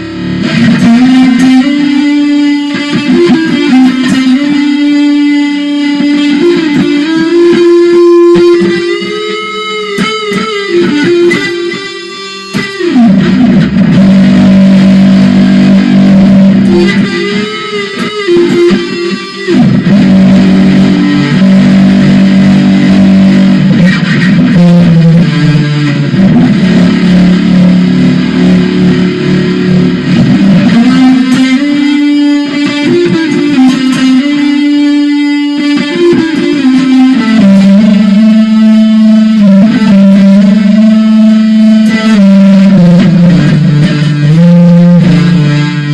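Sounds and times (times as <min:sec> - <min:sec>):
distorted electric guitar music: 0:00.0 - 0:45.9.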